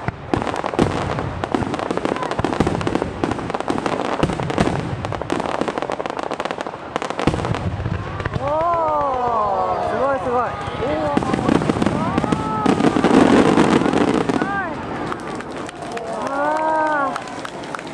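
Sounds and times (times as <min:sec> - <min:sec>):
loud firework bangs: 0:00.0 - 0:15.9
fireworks crackling and popping: 0:00.0 - 0:17.9.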